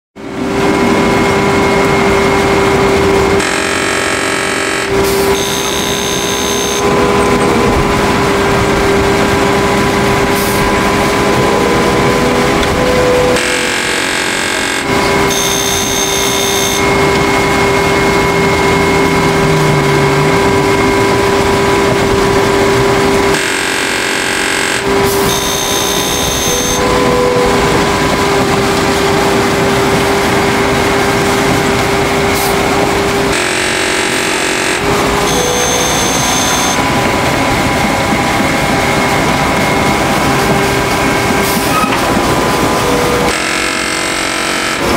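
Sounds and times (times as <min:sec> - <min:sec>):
brief high whine: 0:00.2 - 0:44.0
concrete mixer mechanical drone: 0:00.2 - 0:44.9
rough pulsing mechanical noise: 0:00.2 - 0:44.9.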